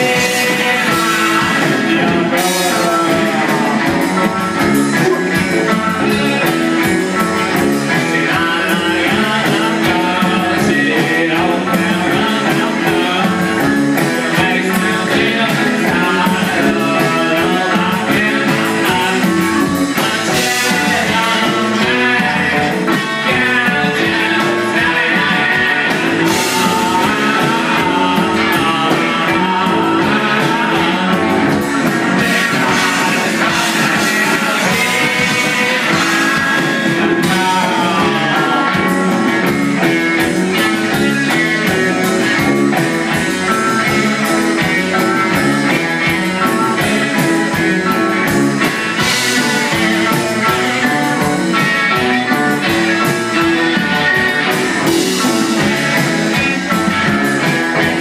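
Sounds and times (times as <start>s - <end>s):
electric guitar: 0.0s - 58.0s
rock band playing live: 0.0s - 58.0s.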